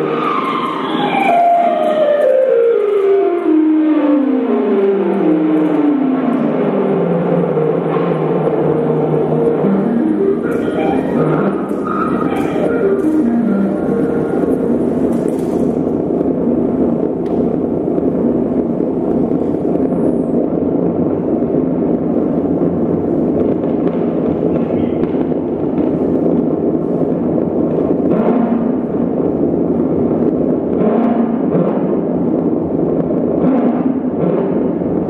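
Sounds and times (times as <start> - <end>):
dense crackling noise music: 0.0 - 35.0.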